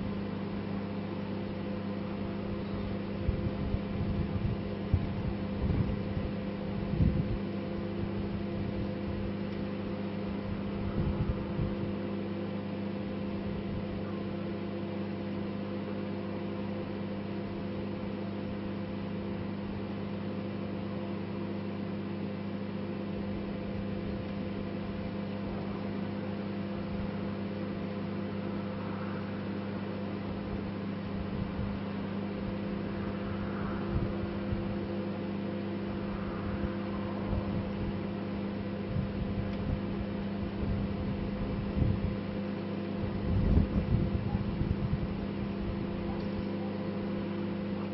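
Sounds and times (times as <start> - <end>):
microwave oven humming: 0.0 - 47.9.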